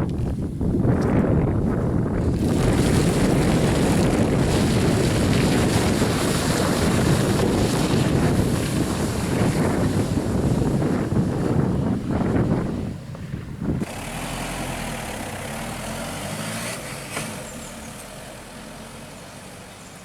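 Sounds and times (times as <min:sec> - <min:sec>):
wind buffeting microphone: 0:00.0 - 0:18.3
vehicle engine and tyres in mud: 0:00.0 - 0:20.0.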